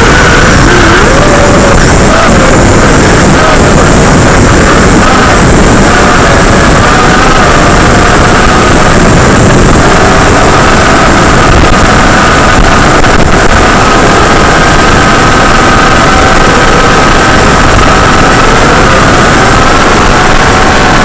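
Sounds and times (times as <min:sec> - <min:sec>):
drone motors whining: 0:00.0 - 0:21.0
steady hiss: 0:00.0 - 0:21.0.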